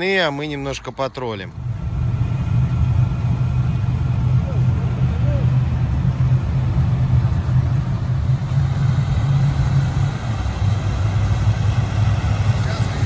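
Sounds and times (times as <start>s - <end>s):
motorboat engine rumbling: 0.0s - 13.0s.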